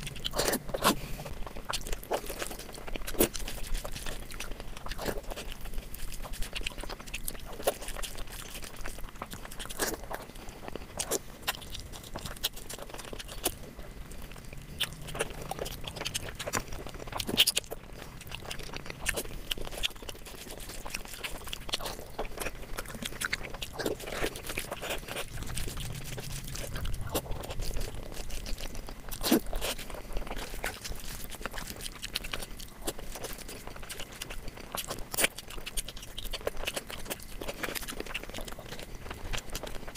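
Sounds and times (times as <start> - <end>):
chewing and biting food: 0.0 - 39.9
wet mouth clicks and crunches: 0.0 - 39.9.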